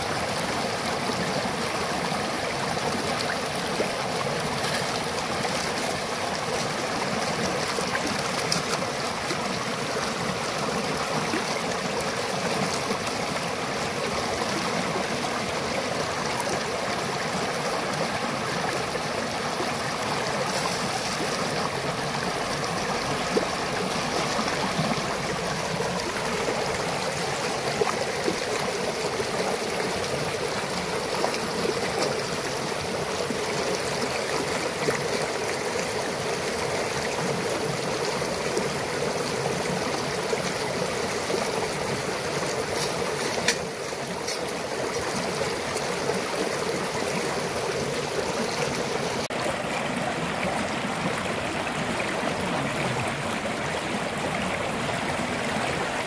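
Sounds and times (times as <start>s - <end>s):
stream rushing over stones: 0.0s - 56.0s.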